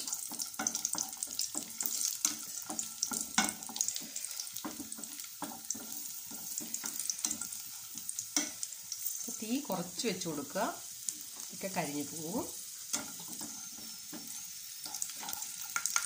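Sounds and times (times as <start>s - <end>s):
spatula scraping pan: 0.0s - 10.2s, 11.2s - 16.0s
nuts sizzling in frying fat: 0.0s - 16.0s.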